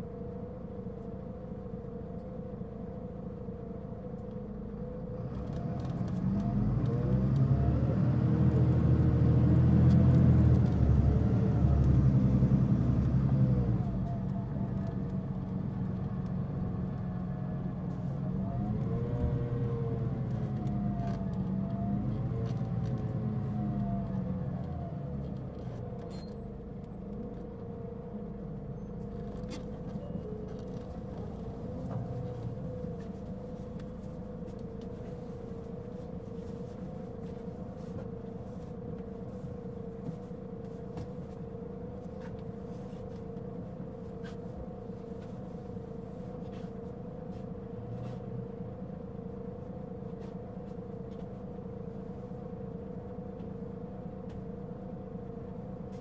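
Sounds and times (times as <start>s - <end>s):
bus diesel engine rumble and whine: 0.0s - 56.0s.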